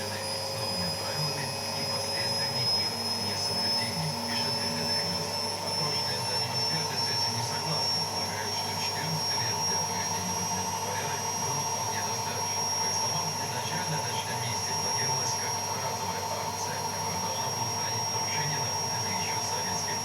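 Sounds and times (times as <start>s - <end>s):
washing machine whining and whirring: 0.0s - 20.0s.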